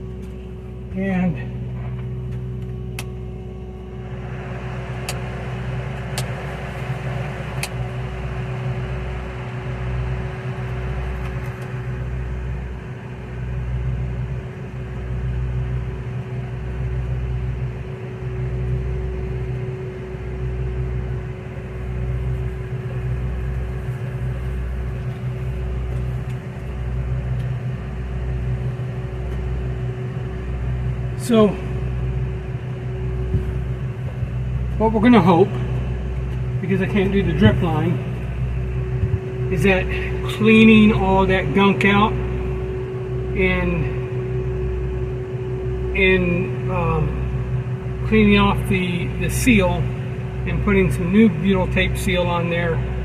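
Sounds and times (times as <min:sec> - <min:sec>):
air conditioner running: 0:00.0 - 0:53.0.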